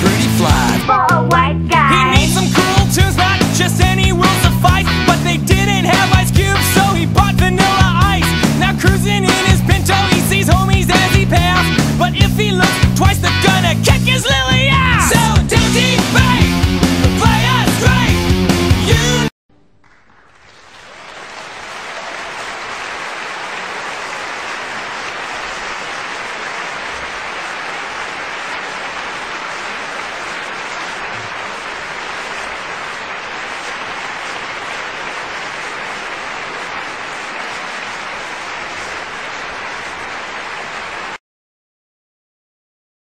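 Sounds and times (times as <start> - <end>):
crowd applauding: 0.0 - 19.2, 19.8 - 41.2.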